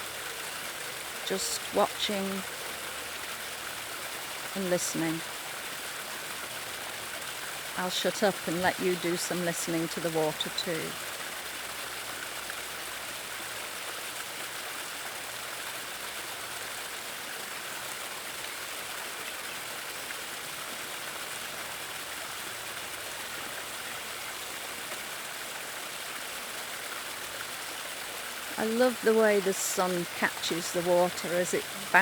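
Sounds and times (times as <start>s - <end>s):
water cascading over rocks: 0.0s - 32.0s.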